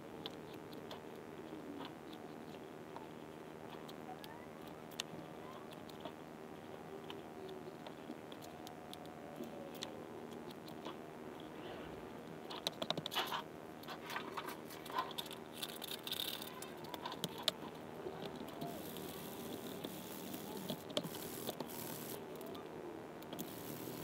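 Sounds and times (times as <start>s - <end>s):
masking tape crinkling and clicking: 0.2s - 11.6s, 12.2s - 24.0s.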